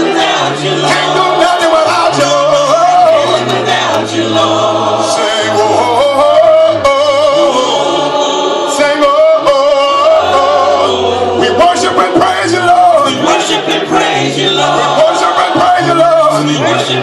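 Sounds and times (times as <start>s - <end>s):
congregation singing a cappella: 0.0s - 17.0s.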